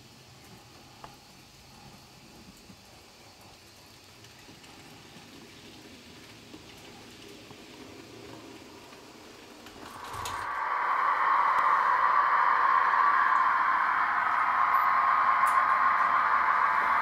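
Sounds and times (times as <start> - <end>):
model trains running: 0.0 - 17.0.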